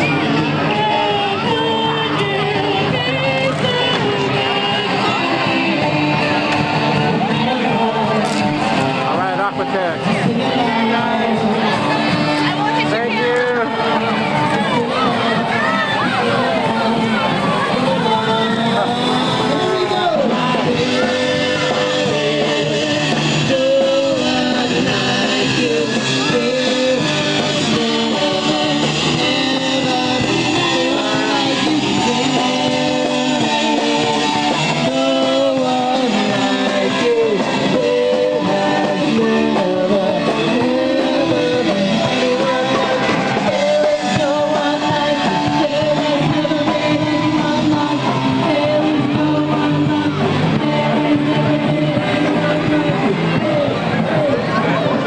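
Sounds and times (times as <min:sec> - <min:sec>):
rock band with singer: 0:00.0 - 0:55.0.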